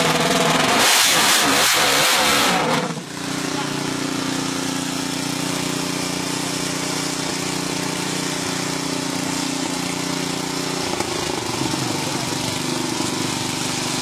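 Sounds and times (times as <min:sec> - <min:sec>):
motorcycle engine idling: 0:00.0 - 0:00.6, 0:02.7 - 0:14.0.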